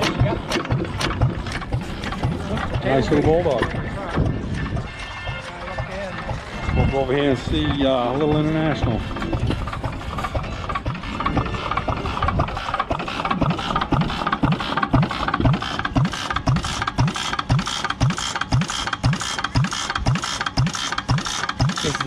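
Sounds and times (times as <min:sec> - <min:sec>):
stationary gas engine running: 0:00.0 - 0:22.0.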